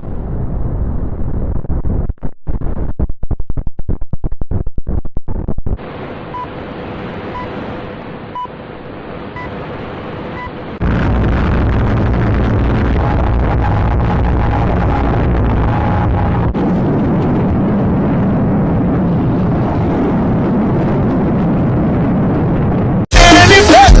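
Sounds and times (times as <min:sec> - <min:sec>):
rumbling space noise: 0:00.0 - 0:24.0.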